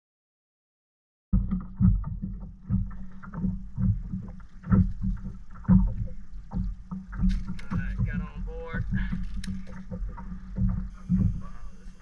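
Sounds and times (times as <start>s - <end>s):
water slapping kayak: 1.4s - 12.0s
wind buffeting microphone: 1.4s - 12.0s.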